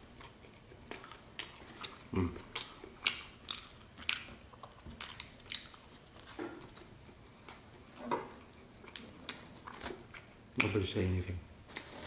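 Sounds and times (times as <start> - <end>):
person chewing bread: 0.0 - 10.5, 11.6 - 12.0.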